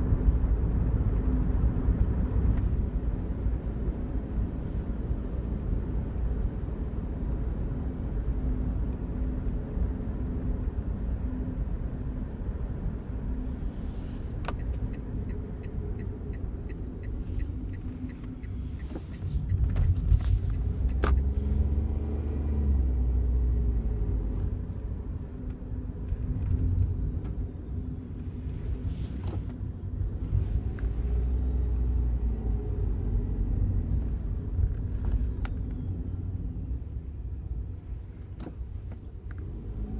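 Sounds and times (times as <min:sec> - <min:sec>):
car engine and road drone: 0:00.0 - 0:39.9.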